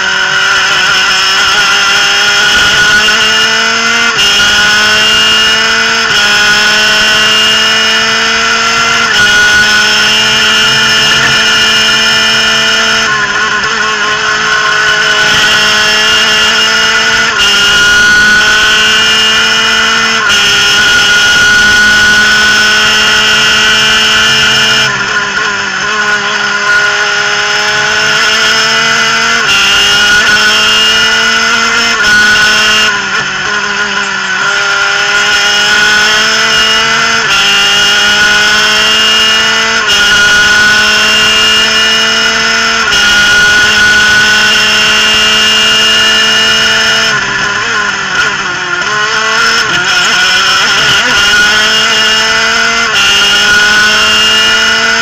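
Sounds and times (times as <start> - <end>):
racing engine screaming: 0.0 - 55.0.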